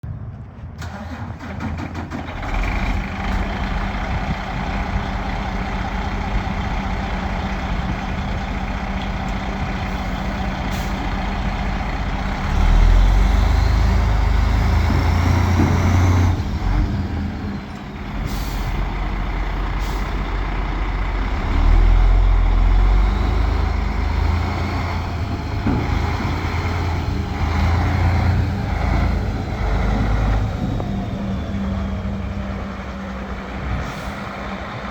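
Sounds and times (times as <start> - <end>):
truck diesel engine running: 0.8 - 34.9.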